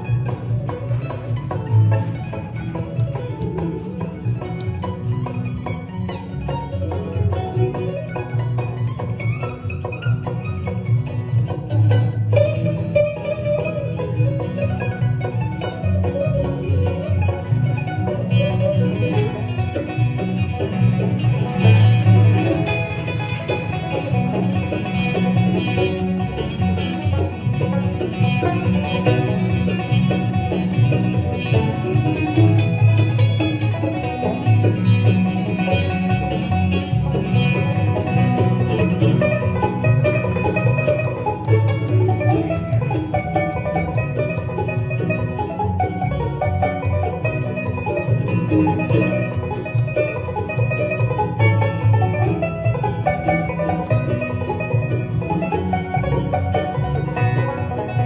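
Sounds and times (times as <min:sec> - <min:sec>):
bluegrass band playing: 0:00.0 - 0:58.0.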